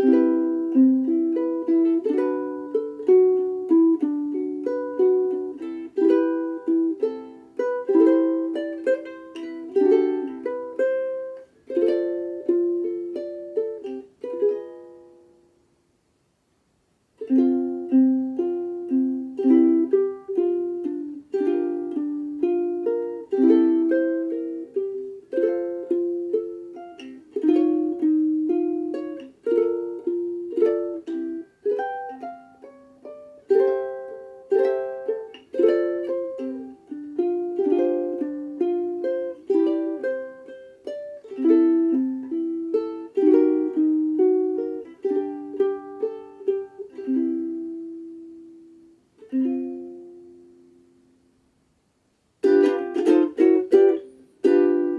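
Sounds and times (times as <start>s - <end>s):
ukulele plucked melody over chords: 0.0s - 15.6s, 17.2s - 51.4s, 52.4s - 54.9s.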